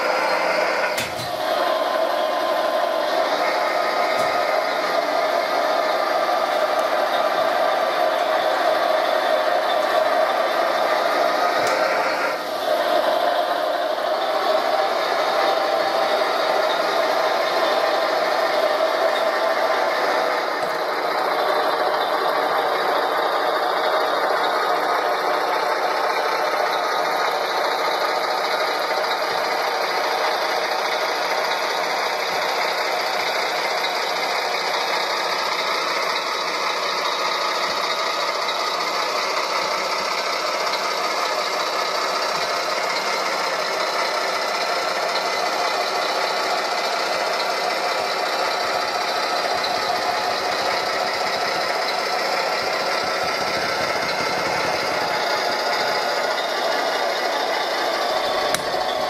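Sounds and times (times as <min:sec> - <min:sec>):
model truck whirring rattle: 0:00.0 - 0:59.0.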